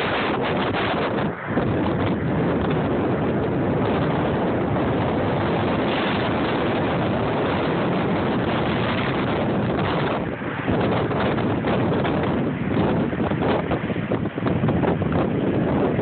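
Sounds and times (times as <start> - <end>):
waterfall rushing: 0.0 - 16.0
wind buffeting microphone: 0.0 - 16.0.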